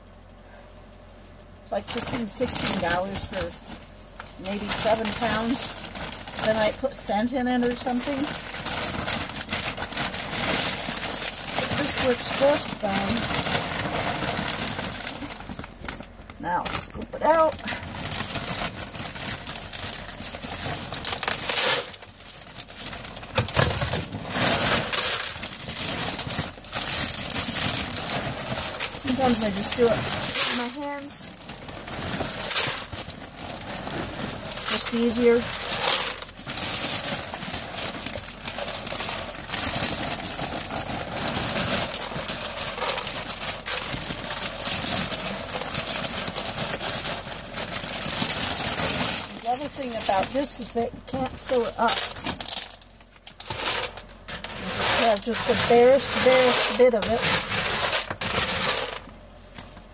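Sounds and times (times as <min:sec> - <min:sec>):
plastic bag crinkling: 0:01.7 - 0:59.9
pellets pouring into plastic bin: 0:01.8 - 0:03.6, 0:04.3 - 0:59.1.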